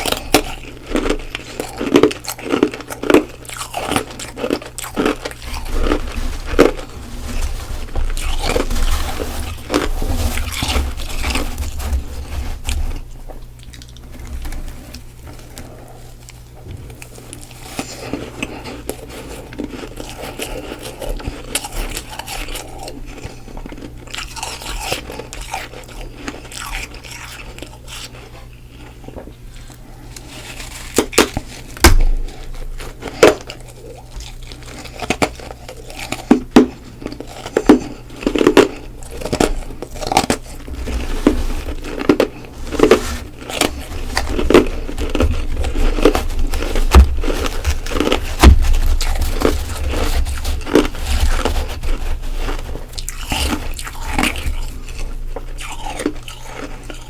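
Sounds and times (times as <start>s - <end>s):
frost being chewed and crunched: 0.0s - 57.0s.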